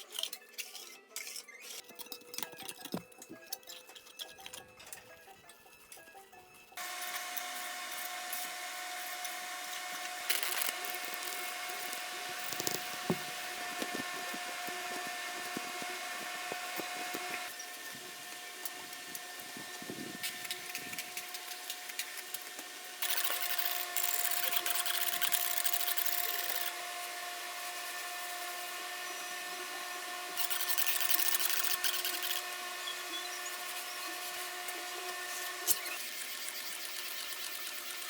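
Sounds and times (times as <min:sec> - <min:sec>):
small power tool whining: 0:06.8 - 0:38.0.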